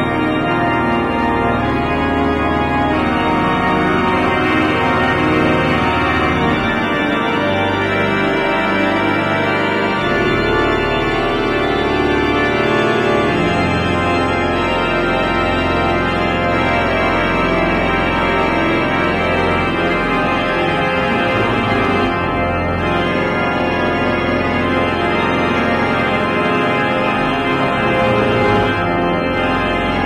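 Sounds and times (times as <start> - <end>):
pipe organ chords: 0.0 - 30.0.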